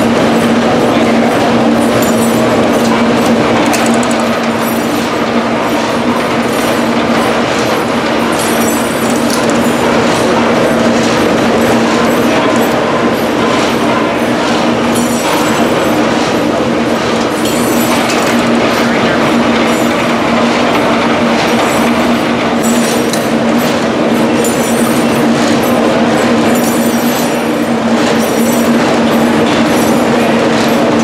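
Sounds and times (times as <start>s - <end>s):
line shafting whirring clatter: 0.0s - 31.0s.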